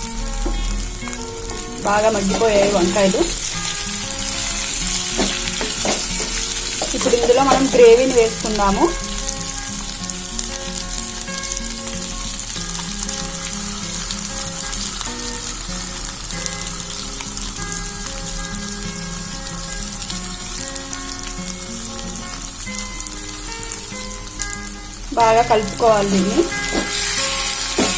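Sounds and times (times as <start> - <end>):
background music: 0.0 - 27.9
oil sizzling in a pan: 0.0 - 27.9.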